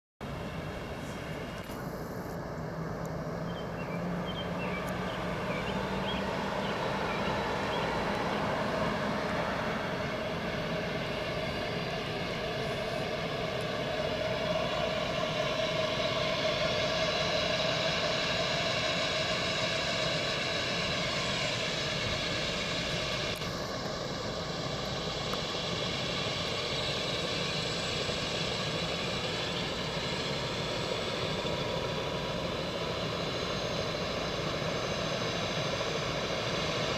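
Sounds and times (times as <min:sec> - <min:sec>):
helicopter turbine whine: 0:00.2 - 0:36.9
helicopter rotor spinning: 0:00.4 - 0:36.9.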